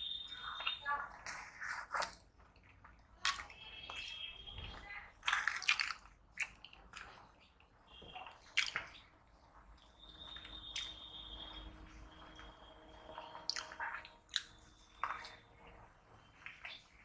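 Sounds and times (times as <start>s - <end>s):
wet squishy chewing: 0.2s - 11.6s, 12.3s - 17.0s.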